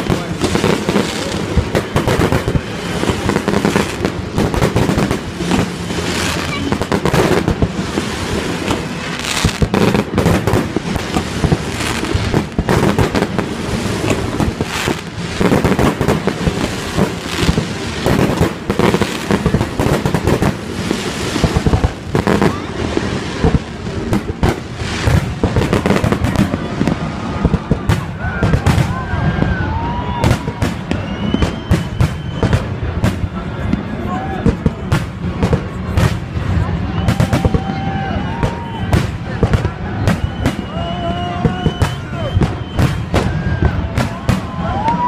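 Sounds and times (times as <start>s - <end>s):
fireworks bursting and crackling: 0.0s - 45.0s.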